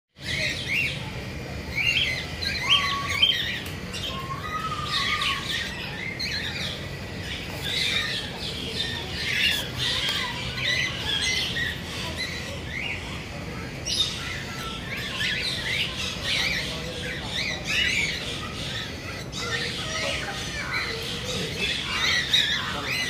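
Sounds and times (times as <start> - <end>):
cockatiels chirping: 0.2 - 23.0
whistled bird notes: 0.2 - 23.0.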